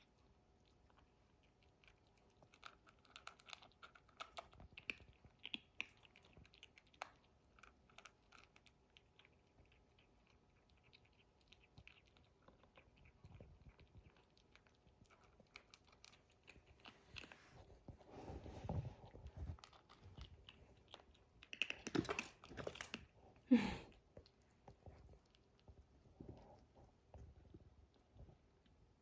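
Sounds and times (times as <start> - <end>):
kittens' paws tapping and scuffling: 0.6 - 29.0.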